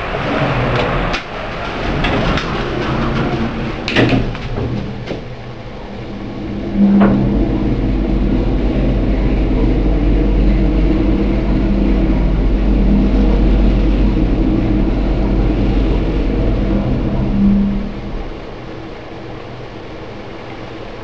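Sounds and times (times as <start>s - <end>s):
lift car hum and rumble: 0.0s - 21.0s.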